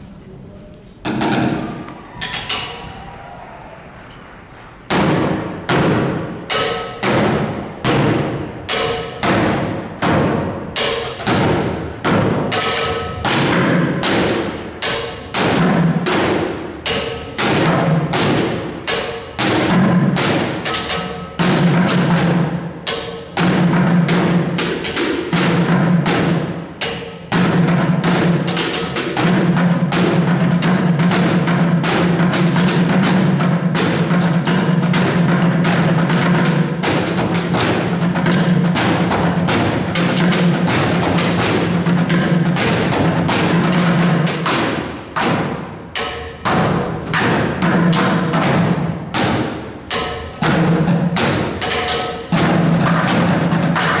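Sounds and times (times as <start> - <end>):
bucket drum thuds: 1.0 - 2.7, 4.9 - 54.0
percussion on metal pans: 4.9 - 54.0.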